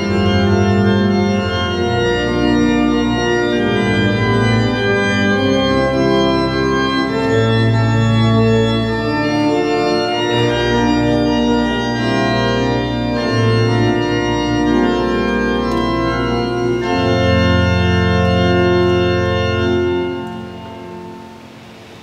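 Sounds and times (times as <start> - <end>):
church organ chords: 0.0 - 22.0.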